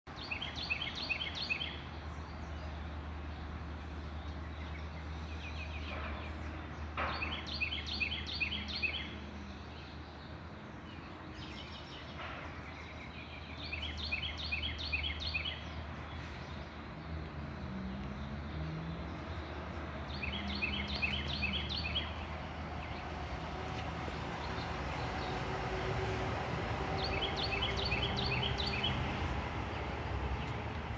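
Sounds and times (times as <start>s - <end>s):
songbird singing rapid chirps: 0.1s - 30.9s.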